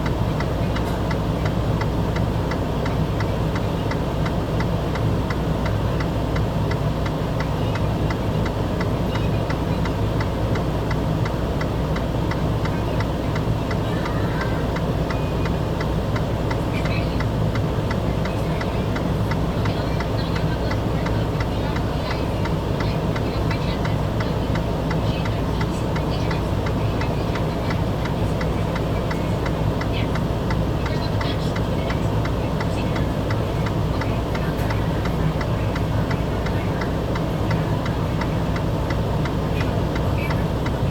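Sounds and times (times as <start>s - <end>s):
engine running with ticking clatter: 0.0s - 40.9s.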